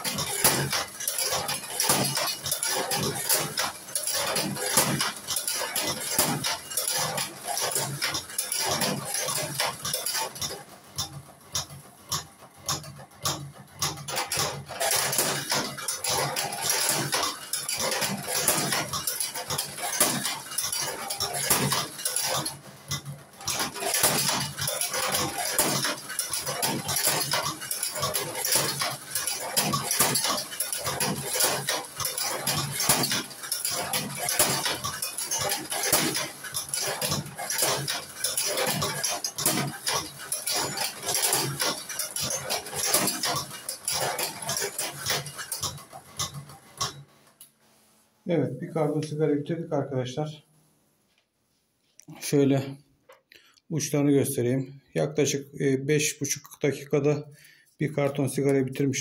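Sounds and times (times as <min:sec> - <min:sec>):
machine clicking and clattering: 0:00.0 - 0:47.8, 0:52.1 - 0:59.0.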